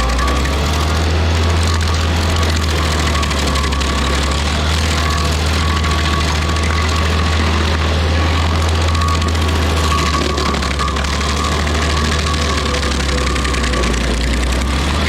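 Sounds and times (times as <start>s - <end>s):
stump grinder engine hum: 0.0s - 15.0s.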